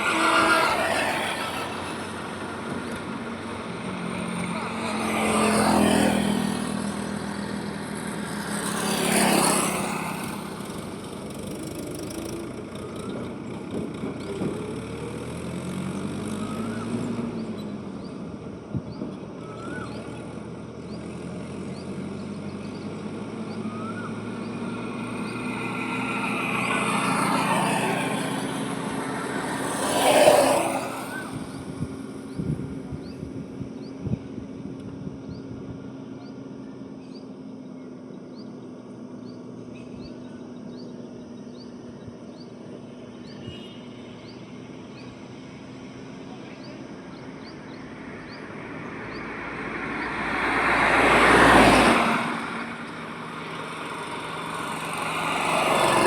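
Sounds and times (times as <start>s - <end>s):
steady engine hum: 0.0s - 56.0s
vehicles passing by: 0.0s - 56.0s.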